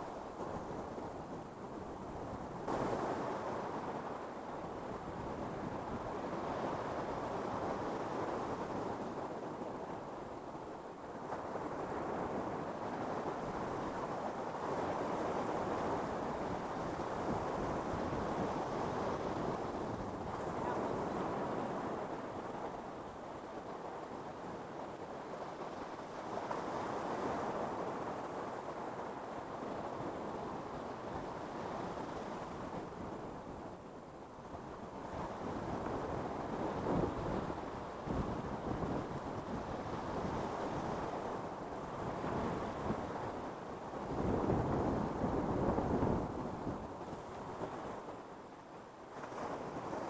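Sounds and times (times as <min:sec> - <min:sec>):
wind noise on microphone: 0:00.0 - 0:50.0.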